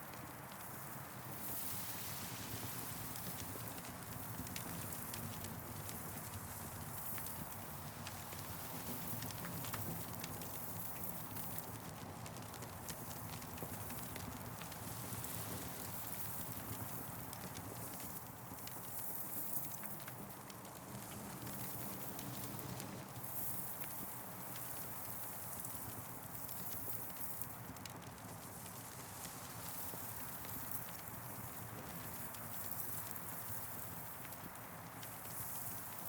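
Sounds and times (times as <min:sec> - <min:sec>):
campfire crackling: 0:02.9 - 0:36.0.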